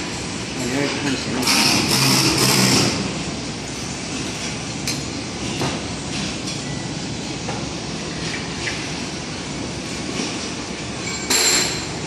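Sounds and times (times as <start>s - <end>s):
factory rumbling: 0.0s - 12.0s.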